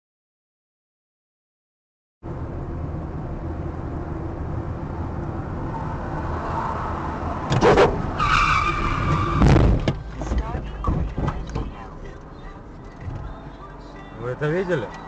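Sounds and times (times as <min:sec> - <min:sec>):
car road and engine noise: 0:02.2 - 0:15.0.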